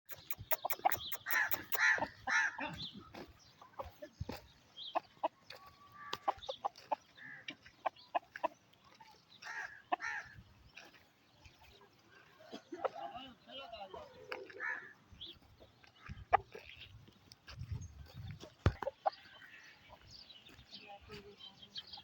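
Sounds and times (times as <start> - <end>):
roosters clucking and calling: 0.1 - 22.0.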